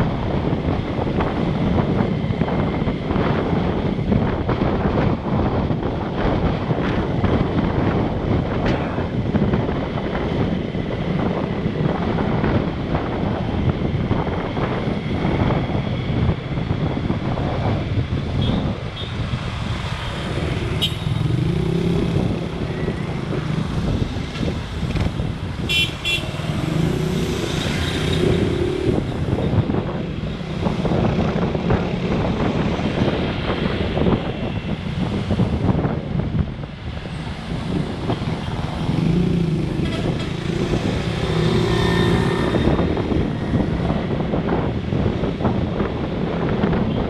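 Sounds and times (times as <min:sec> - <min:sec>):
motorcycle and car engines: 0:00.0 - 0:47.0
wind rushing over microphone: 0:00.0 - 0:47.0.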